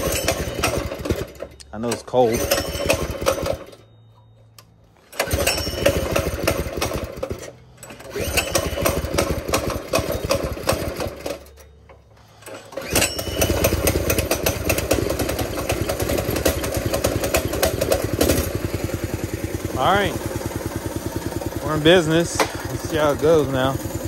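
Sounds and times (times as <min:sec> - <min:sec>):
small engine starting and running: 0:00.0 - 0:04.3, 0:04.9 - 0:24.0.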